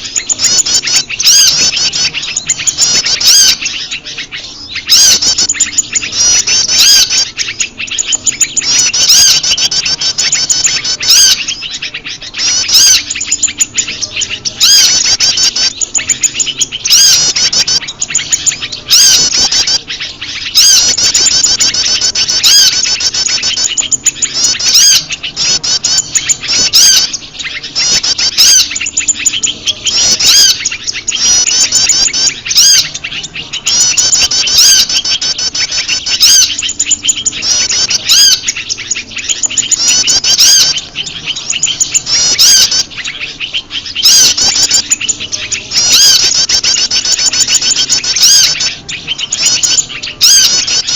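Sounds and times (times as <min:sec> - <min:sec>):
birds chirping trills: 0:00.0 - 0:50.9.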